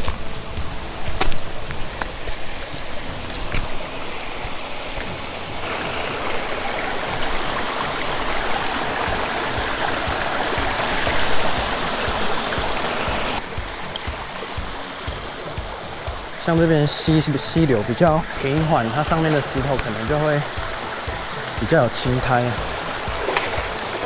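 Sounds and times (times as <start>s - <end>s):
stream running over rocks: 0.0s - 24.0s.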